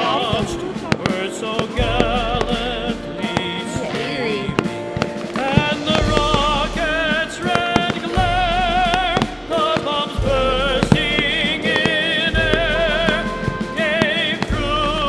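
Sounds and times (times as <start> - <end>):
fireworks bursting and cracking: 0.0 - 15.0
loud music with sung melody: 0.0 - 15.0.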